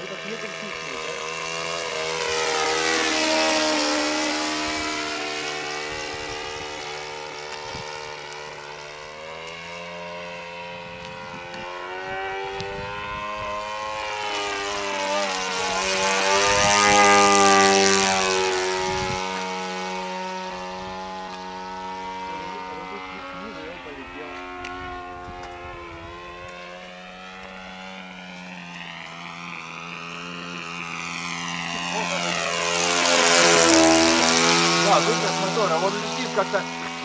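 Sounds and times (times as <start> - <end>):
model plane engine passing: 0.0 - 37.0.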